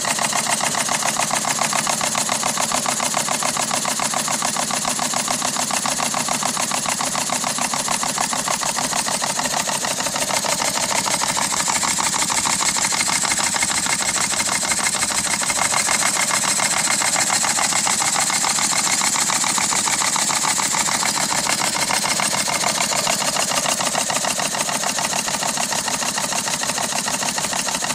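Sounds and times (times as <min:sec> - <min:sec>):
model steam engine running: 0:00.0 - 0:27.9
fast exhaust beats: 0:05.3 - 0:27.7.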